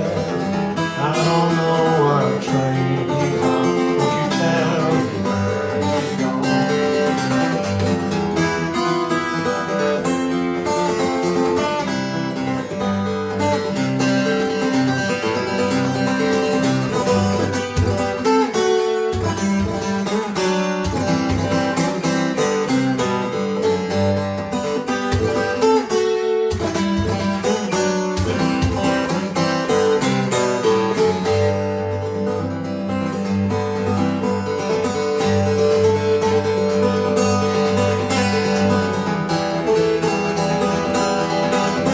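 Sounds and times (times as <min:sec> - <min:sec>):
acoustic guitar plucked notes: 0:00.0 - 0:41.9.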